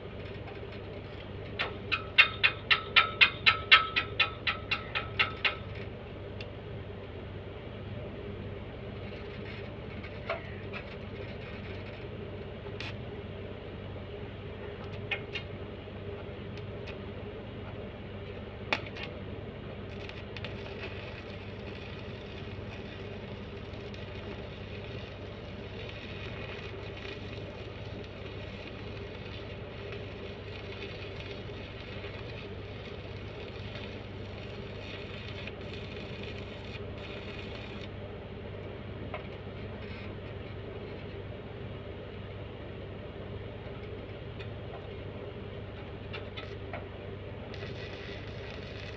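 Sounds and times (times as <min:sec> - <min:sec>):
arc welding crackle and hiss: 0:00.0 - 0:07.0, 0:08.2 - 0:13.3, 0:14.6 - 0:41.3, 0:43.3 - 0:48.9
low electrical hum: 0:00.0 - 0:48.9.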